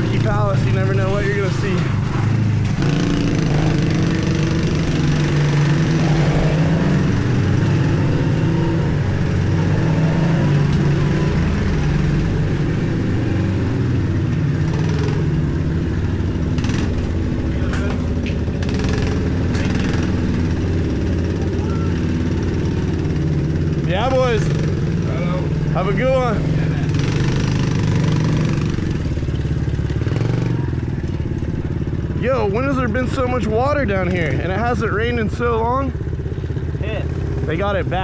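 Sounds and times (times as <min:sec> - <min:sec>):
pit bike engine running: 0:00.0 - 0:38.0.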